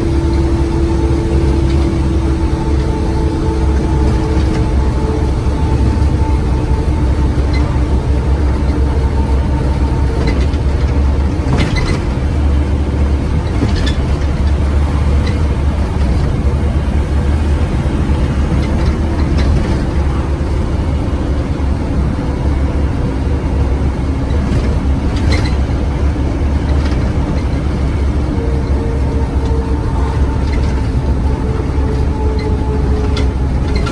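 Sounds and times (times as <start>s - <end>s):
bodywork rattles: 0.0s - 33.9s
bus diesel engine rumbling: 0.0s - 33.9s.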